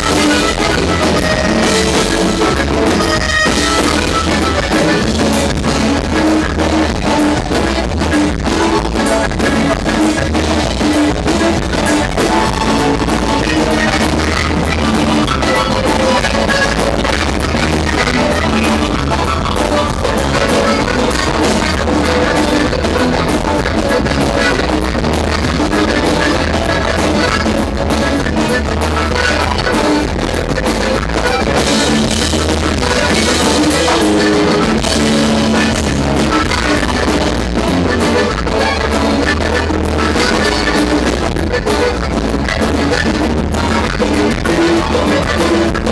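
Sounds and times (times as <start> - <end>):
accordion: 0.0 - 45.9
live band playing: 0.0 - 45.9.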